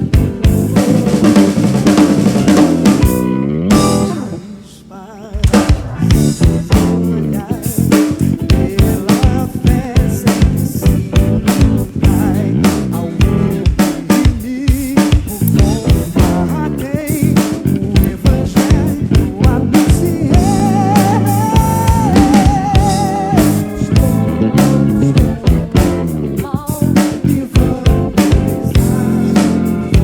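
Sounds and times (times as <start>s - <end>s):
live soul band playing: 0.0s - 30.0s.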